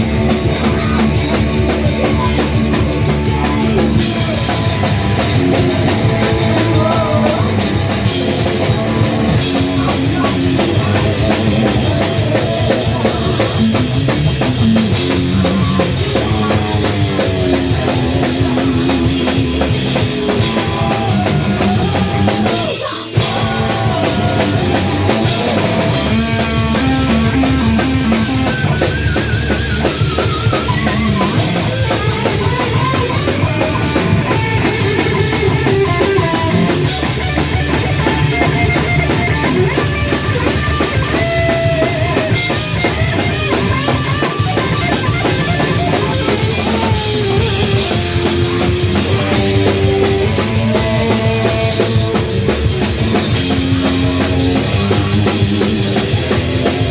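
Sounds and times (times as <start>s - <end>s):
punk rock band playing: 0.0s - 56.9s.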